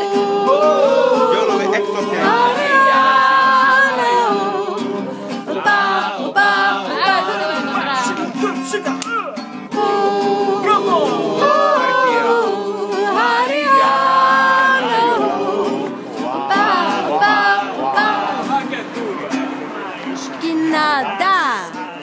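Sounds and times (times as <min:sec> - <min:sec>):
acoustic guitar: 0:00.0 - 0:22.0
two men singing: 0:00.0 - 0:22.0.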